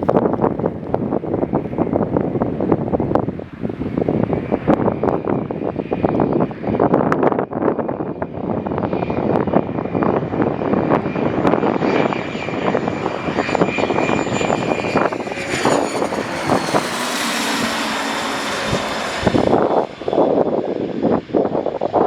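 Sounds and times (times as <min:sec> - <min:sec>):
jet engine whine and roar: 0:00.0 - 0:22.0.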